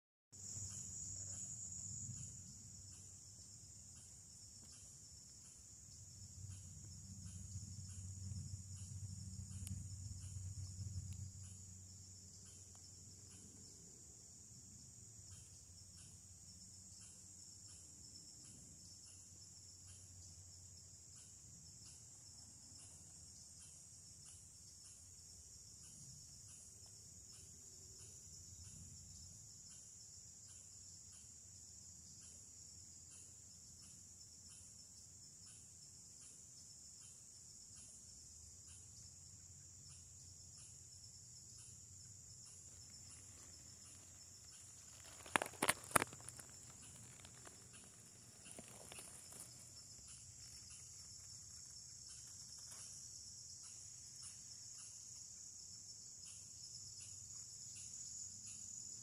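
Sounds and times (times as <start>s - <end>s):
insects chirping chorus: 0.4s - 59.0s.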